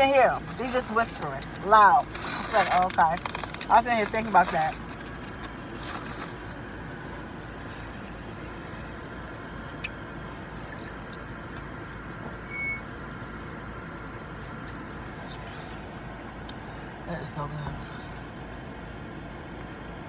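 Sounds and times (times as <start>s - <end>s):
low hum inside a car: 0.0s - 20.0s.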